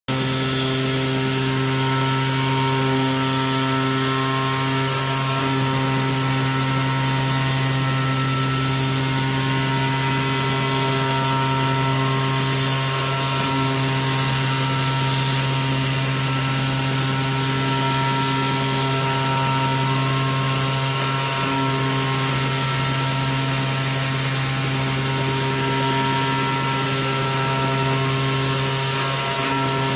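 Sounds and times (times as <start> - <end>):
cutting machine humming and whining: 0.1 - 29.9.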